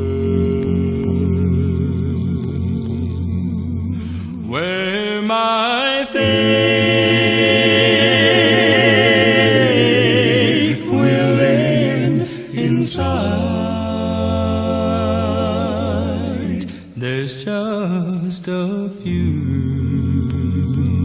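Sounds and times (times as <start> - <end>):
vocal quartet singing a cappella: 0.0 - 21.0.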